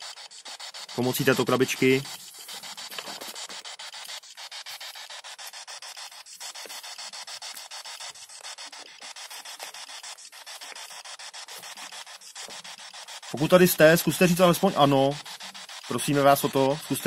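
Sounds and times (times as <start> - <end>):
quick regular clicks: 0.0 - 17.0
radio static hiss: 0.0 - 17.0.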